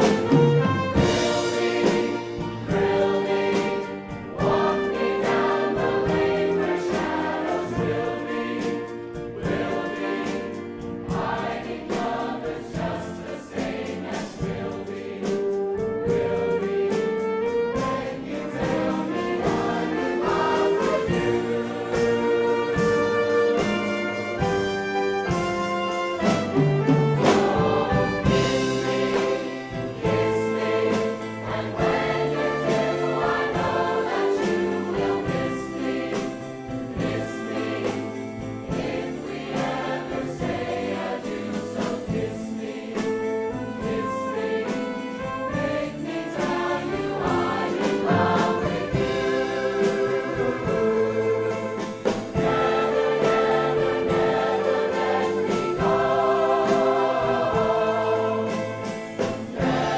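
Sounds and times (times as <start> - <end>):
chorus singing rock and roll: 0.0 - 15.5, 17.8 - 59.9
drums: 0.0 - 59.9
piano: 0.0 - 59.9.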